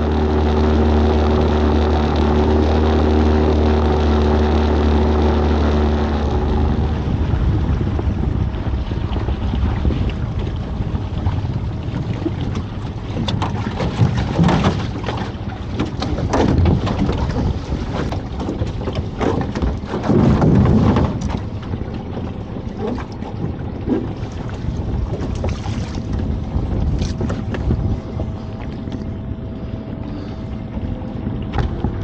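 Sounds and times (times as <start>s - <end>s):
water washing against hull: 0.0s - 32.0s
wind buffeting microphone: 5.3s - 32.0s.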